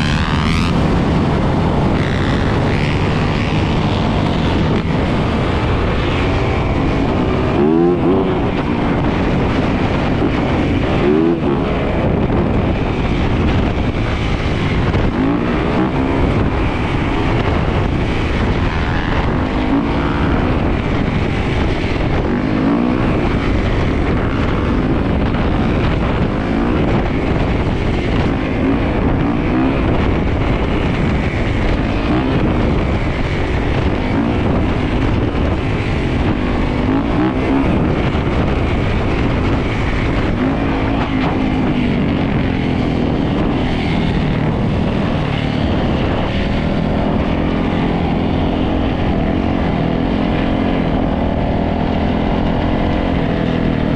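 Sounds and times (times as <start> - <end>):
dirt bike and atv engines revving: 0.0 - 53.9.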